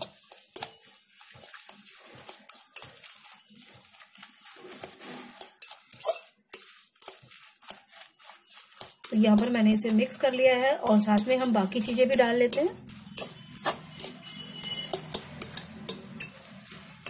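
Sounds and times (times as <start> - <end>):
metal utensil clinking on glass bowl: 0.0 - 17.0.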